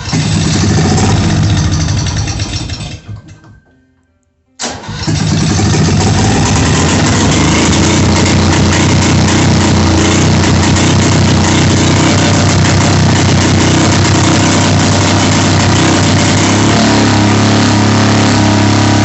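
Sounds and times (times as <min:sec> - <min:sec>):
tractor engine running: 0:00.0 - 0:03.6, 0:04.6 - 0:19.0.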